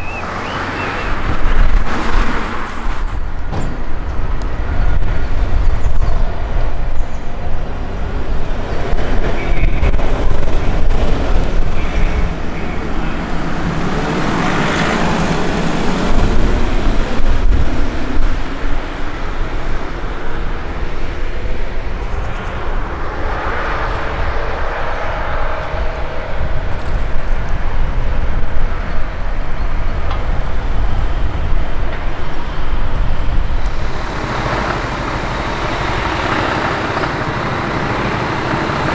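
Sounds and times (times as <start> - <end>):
traffic low rumble: 0.0 - 38.9
vehicles passing by: 0.0 - 38.9.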